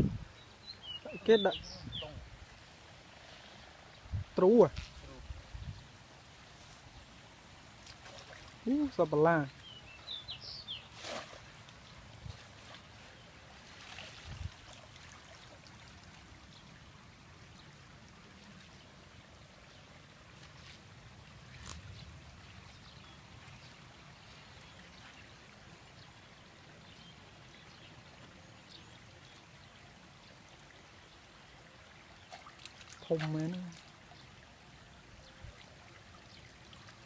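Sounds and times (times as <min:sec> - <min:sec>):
water trickling and sloshing: 0:00.0 - 0:37.0.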